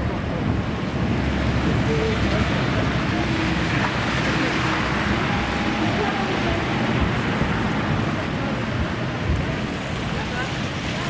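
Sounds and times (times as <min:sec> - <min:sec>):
electric tram running: 0:00.0 - 0:11.0
street and traffic noise: 0:00.0 - 0:11.0.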